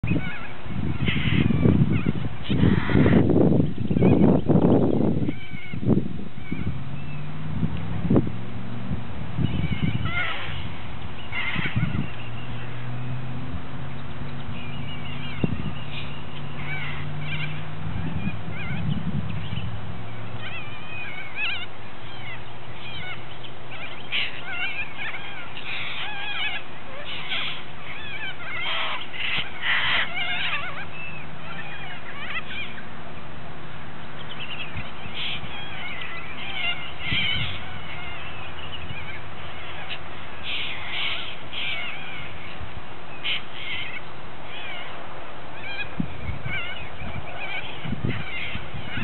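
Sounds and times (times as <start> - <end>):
flock of birds screeching: 0.0 - 7.3, 9.4 - 13.1, 13.9 - 33.0, 34.1 - 49.0.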